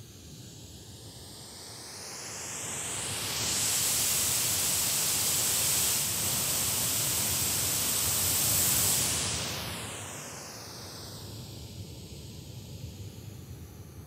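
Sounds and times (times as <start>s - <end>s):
white noise hiss from speaker: 0.0s - 14.0s.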